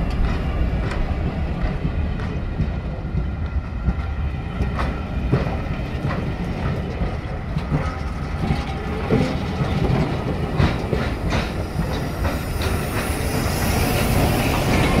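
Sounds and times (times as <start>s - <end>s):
diesel locomotive passing: 0.0s - 15.0s
train coaches rumbling: 0.0s - 15.0s.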